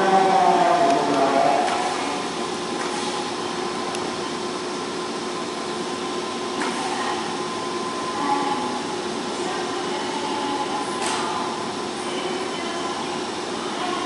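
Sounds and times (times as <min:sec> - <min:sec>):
electric train whirring hum: 0:00.0 - 0:14.0.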